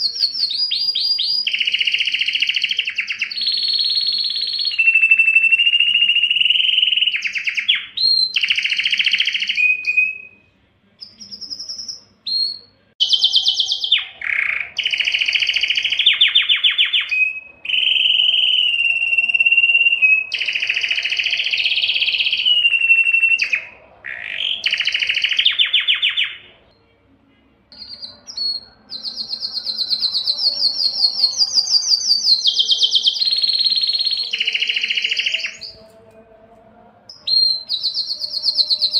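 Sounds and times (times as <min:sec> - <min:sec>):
canary singing trills and whistles: 0:00.0 - 0:26.8, 0:27.7 - 0:36.0, 0:37.1 - 0:38.9.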